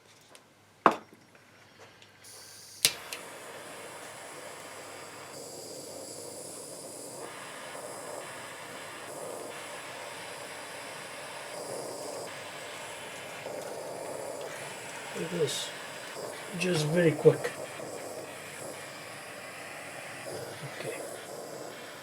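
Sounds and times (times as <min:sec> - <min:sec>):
gas torch flame hissing: 0:02.2 - 0:22.0
gas igniting pop: 0:02.3 - 0:22.0
torch igniter click: 0:02.3 - 0:22.0.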